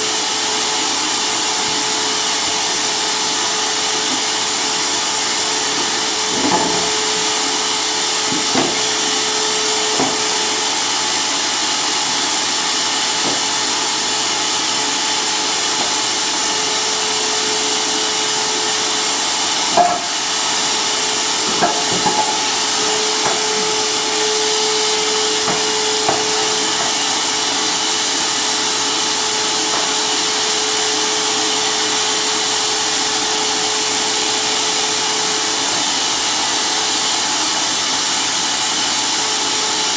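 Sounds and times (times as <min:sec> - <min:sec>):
circular saw whining: 0:00.0 - 0:39.9.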